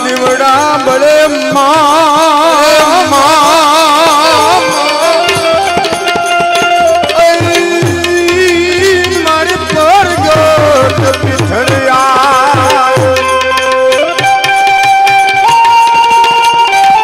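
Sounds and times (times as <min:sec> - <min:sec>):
harmonium chords: 0:00.0 - 0:17.0
tabla drumming: 0:00.0 - 0:17.0.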